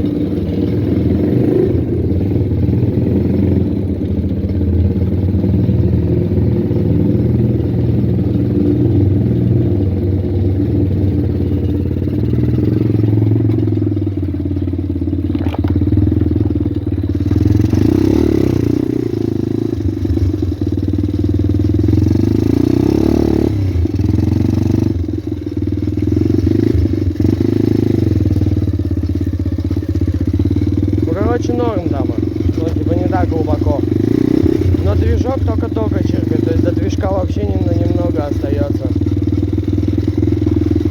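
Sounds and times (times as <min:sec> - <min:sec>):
motorbike engine running at low revs: 0:00.0 - 0:40.9.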